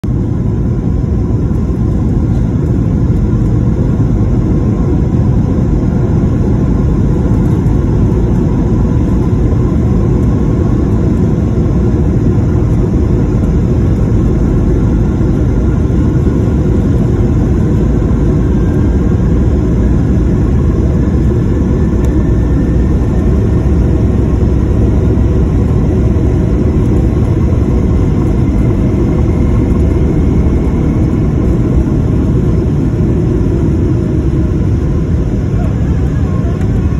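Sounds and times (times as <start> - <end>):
faint rising whine: 0.0 - 36.9
jet engines rumbling in cabin: 0.0 - 36.9.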